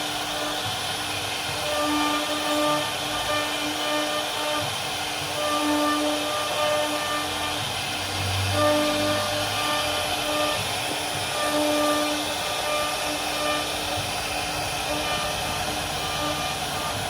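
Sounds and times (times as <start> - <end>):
router cutting wood hiss: 0.0 - 17.0
spindle whine: 0.0 - 17.0.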